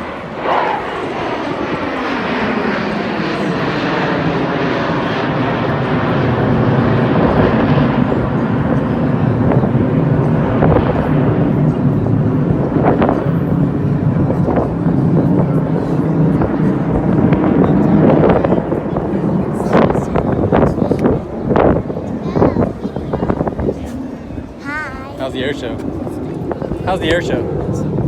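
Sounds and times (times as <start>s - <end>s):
jet aircraft flying past: 0.0s - 28.0s.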